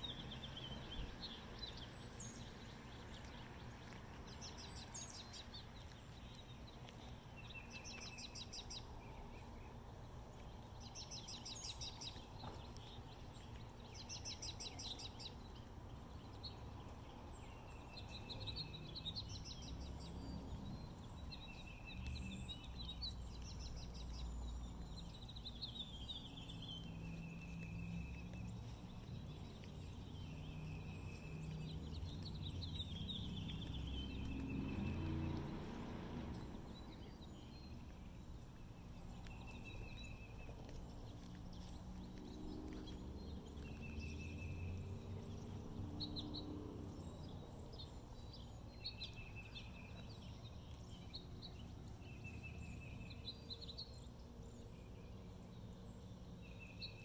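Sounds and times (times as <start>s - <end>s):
low outdoor rumble: 0.0s - 56.0s
songbird singing: 0.0s - 57.0s.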